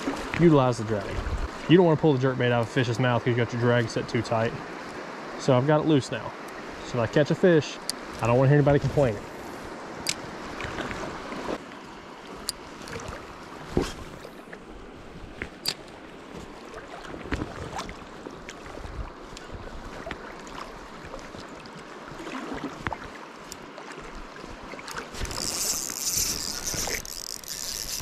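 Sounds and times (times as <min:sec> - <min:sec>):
creek rushing: 0:00.0 - 0:28.0.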